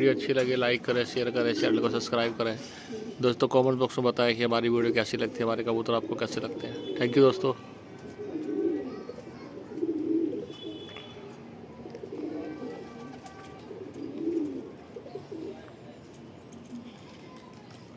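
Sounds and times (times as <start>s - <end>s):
pigeons cooing: 0.0s - 3.4s, 4.7s - 15.8s.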